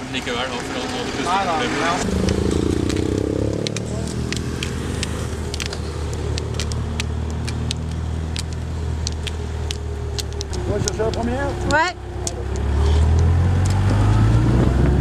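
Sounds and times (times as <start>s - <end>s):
vehicle engine running: 0.1s - 15.0s
sharp clicks: 2.1s - 14.1s.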